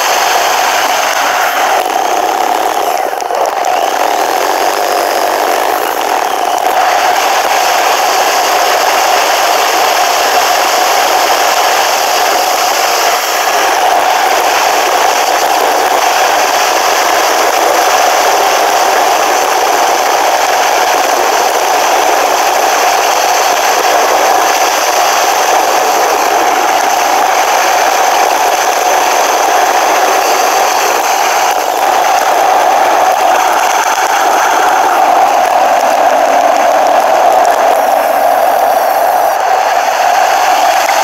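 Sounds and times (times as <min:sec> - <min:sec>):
mid-pitched hum: 0:00.0 - 0:41.0
road vibration: 0:00.0 - 0:41.0.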